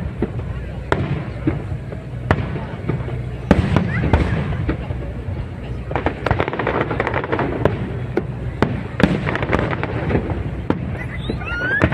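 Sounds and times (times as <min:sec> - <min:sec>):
fireworks crackling pops: 0:00.0 - 0:11.9
fireworks sharp bangs: 0:00.0 - 0:11.9
low rumble: 0:00.0 - 0:11.9.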